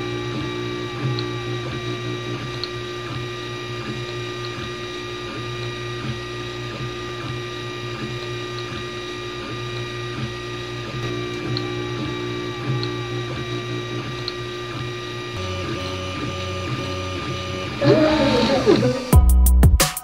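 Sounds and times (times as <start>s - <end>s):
steady hum: 0.0s - 19.2s
stepper motors whining: 0.0s - 19.2s.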